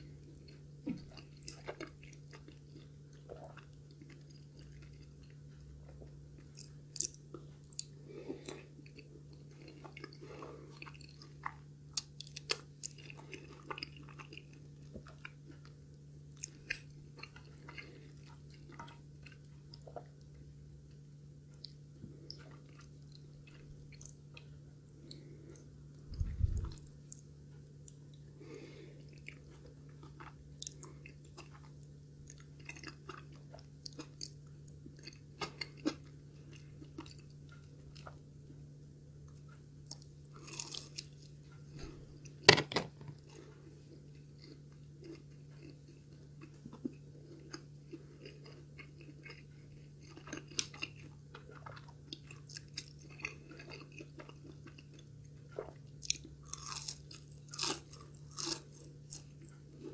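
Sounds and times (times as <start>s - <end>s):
chewing crunchy food: 0.0s - 59.9s
steady low hum: 0.0s - 59.9s.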